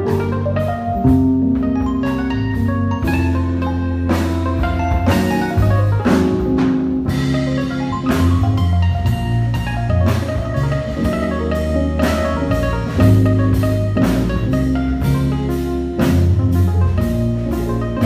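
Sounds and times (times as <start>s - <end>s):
bass line: 0.0s - 18.0s
drum kit and cymbal strokes: 0.0s - 18.0s
electronic keyboard playing: 0.0s - 18.0s.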